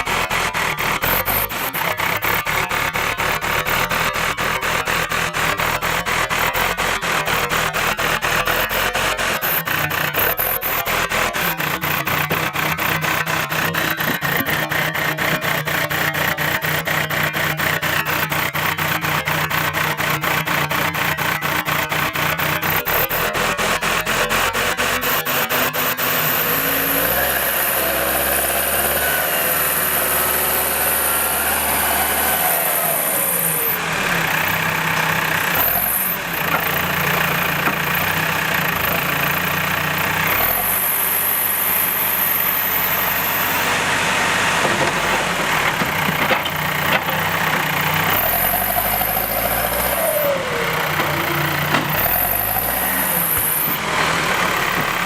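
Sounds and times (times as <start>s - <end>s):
diesel earthmover engine working: 0.0s - 55.0s.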